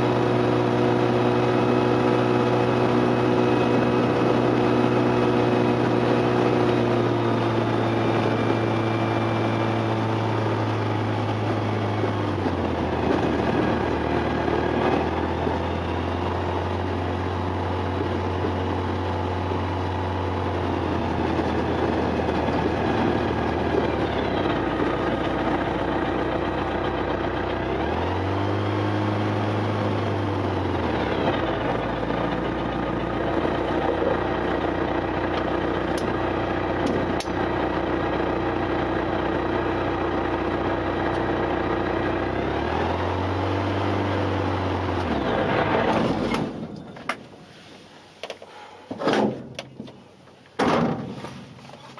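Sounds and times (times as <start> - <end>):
microlight engine and propeller: 0.0 - 47.4.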